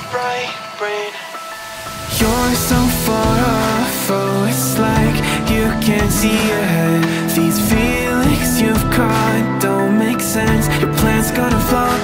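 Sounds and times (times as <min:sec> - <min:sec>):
song over a steady beat: 0:00.0 - 0:12.0.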